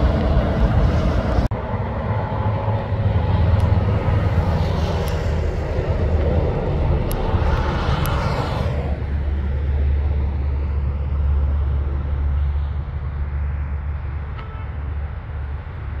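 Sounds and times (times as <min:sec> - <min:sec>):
diesel truck engine drone: 0:00.0 - 0:16.0
road noise: 0:00.0 - 0:16.0.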